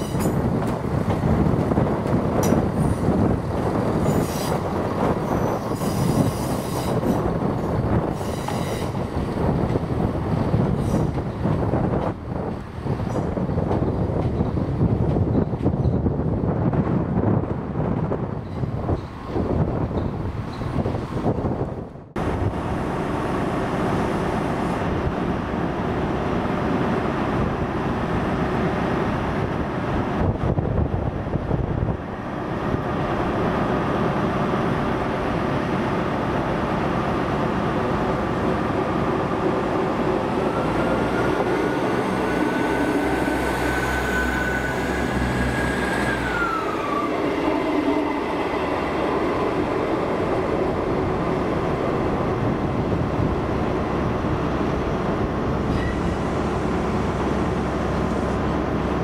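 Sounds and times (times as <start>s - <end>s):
diesel train engine rumble: 0.0s - 59.0s
train engine whine: 0.0s - 59.0s
train moving on tracks: 0.0s - 59.0s.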